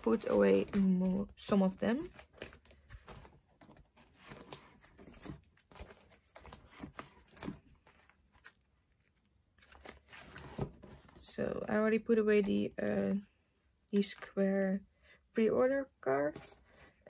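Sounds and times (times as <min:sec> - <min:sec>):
plastic sleeves rustling: 0:00.0 - 0:14.4.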